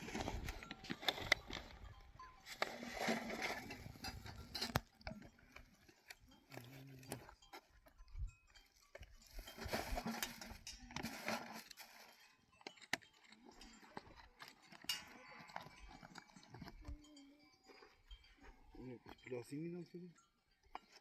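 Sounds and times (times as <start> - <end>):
animal bells clinking: 0.0 - 21.0.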